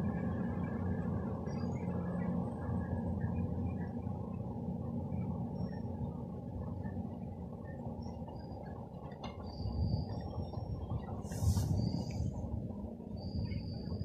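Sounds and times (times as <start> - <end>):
diesel train engines rumbling: 0.0 - 14.0.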